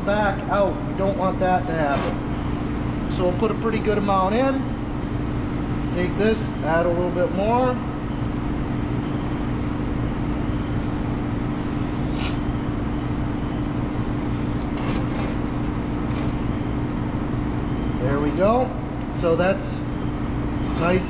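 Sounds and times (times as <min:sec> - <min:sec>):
garage machine hum: 0:00.0 - 0:21.0.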